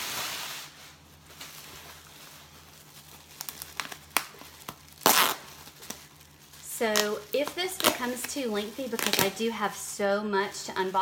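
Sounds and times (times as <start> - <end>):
bubble wrap crinkling and crackling: 0.0 - 11.0.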